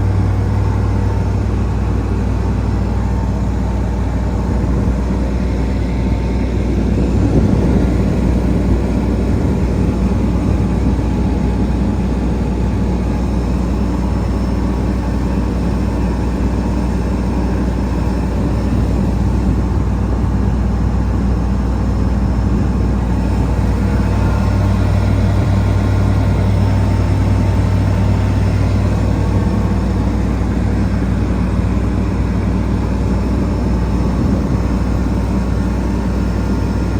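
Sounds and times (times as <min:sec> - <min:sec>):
diesel engine humming: 0:00.0 - 0:36.9.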